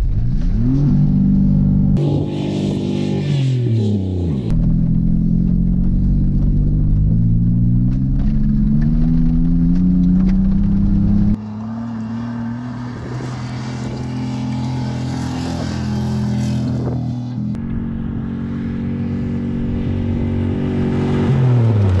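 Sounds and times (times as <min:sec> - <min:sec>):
race car engine accelerating: 0:00.2 - 0:22.0.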